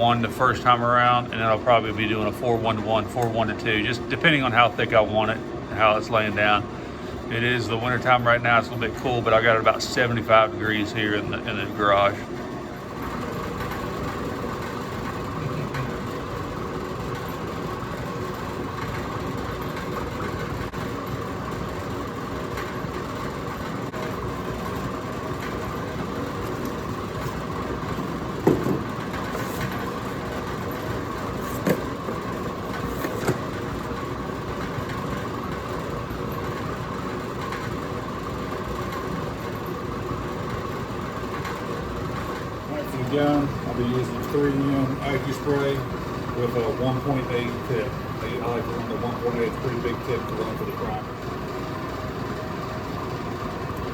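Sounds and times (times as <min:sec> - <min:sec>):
machine humming: 0:00.0 - 0:53.9.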